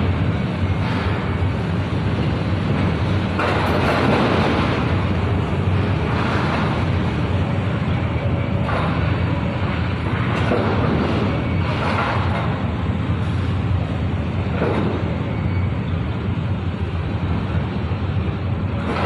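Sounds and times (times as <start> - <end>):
heavy machinery rumble: 0.0 - 19.0.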